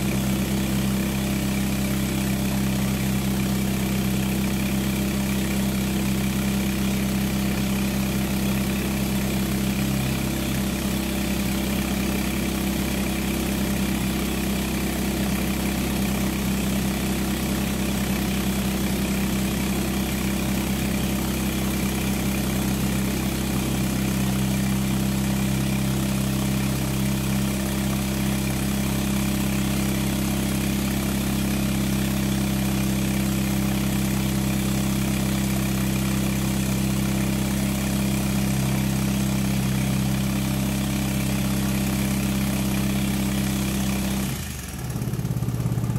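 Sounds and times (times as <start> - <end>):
diesel engine air compressor running: 0.0 - 45.9.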